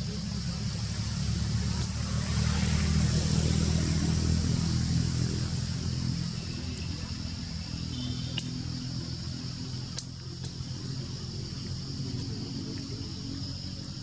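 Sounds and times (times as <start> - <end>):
motor vehicle passing by: 0.0 - 14.0.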